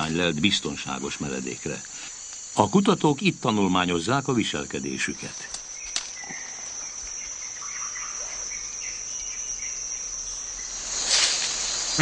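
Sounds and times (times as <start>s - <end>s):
faint chirps: 0.0s - 12.0s
insects chirring: 0.0s - 12.0s.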